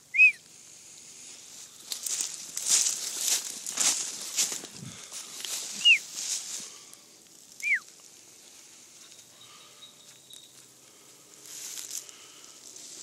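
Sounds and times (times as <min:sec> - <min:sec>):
footsteps through dry undergrowth: 0:00.6 - 0:13.0.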